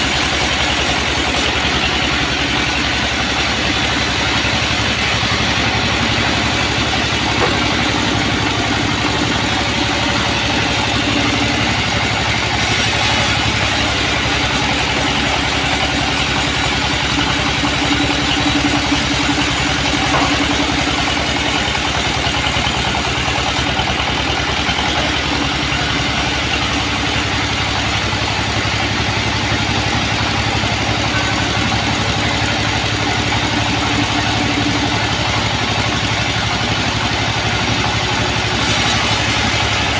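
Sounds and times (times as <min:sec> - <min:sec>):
band saw mill running: 0:00.0 - 0:39.9.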